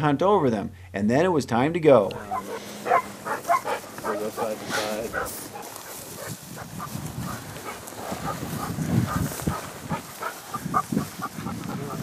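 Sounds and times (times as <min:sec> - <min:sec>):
dog sounds: 0:02.1 - 0:12.0.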